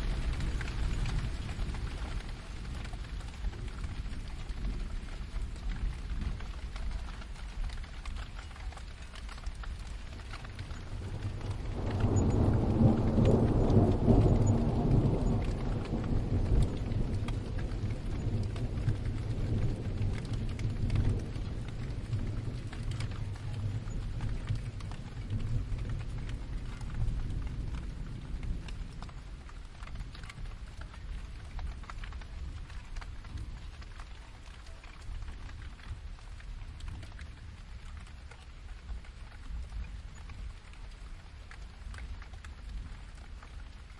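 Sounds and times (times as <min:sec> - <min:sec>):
distant thunder rumbling: 0:00.0 - 0:08.3, 0:09.2 - 0:36.1
steady rain: 0:00.0 - 0:43.9.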